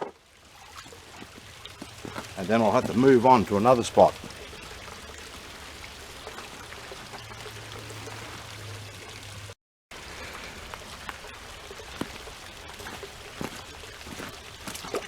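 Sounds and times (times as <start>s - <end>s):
small splashes and clicks: 0.0s - 15.0s
small waterfall splashing into pool: 0.0s - 15.0s.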